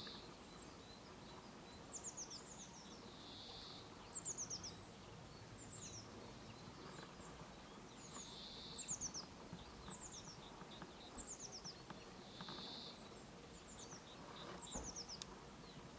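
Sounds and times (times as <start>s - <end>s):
high songbird calls: 0.0s - 15.9s
low background hiss: 0.0s - 15.9s.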